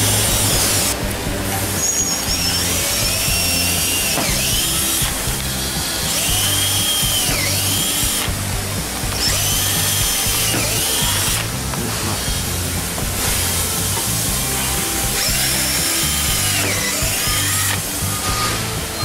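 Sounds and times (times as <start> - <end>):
cordless drill whining: 0.0 - 19.0.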